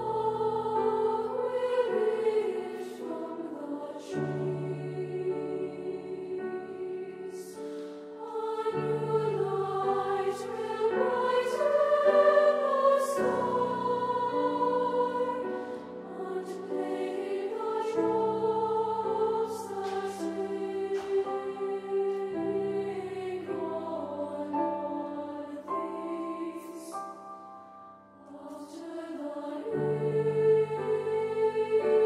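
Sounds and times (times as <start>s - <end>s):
choir of young voices singing: 0.0s - 32.0s
grand piano accompaniment: 0.0s - 32.0s.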